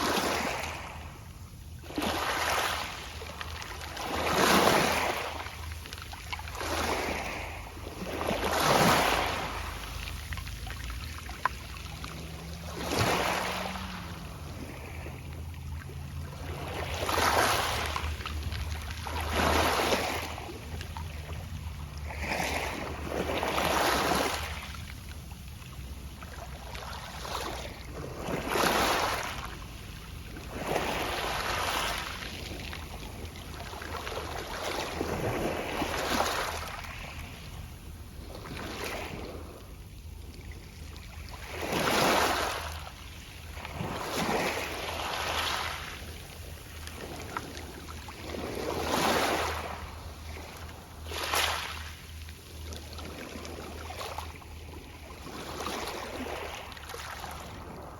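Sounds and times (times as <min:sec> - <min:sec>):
waves breaking on pebble beach: 0:00.0 - 0:01.1, 0:01.8 - 0:15.3, 0:15.9 - 0:24.8, 0:25.9 - 0:37.6, 0:38.2 - 0:39.6, 0:40.9 - 0:52.0, 0:54.8 - 0:57.9.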